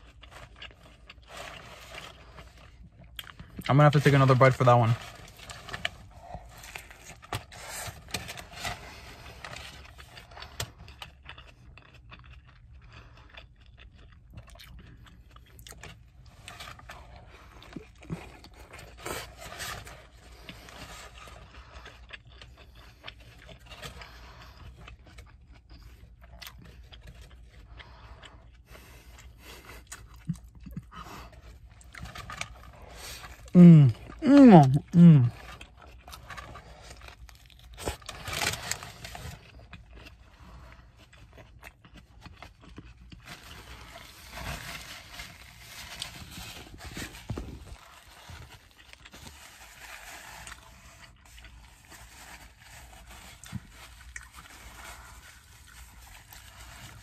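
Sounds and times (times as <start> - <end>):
person chewing food: 0.0 - 3.7, 5.0 - 57.0.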